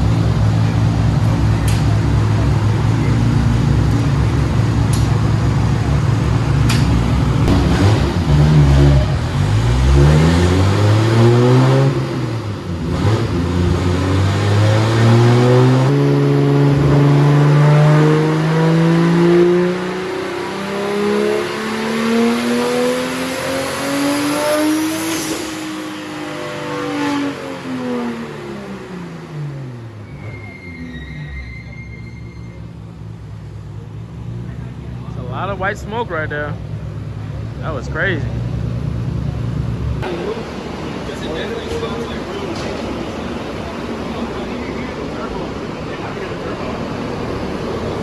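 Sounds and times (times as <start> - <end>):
car engine accelerating: 0.0 - 31.1, 32.0 - 48.0.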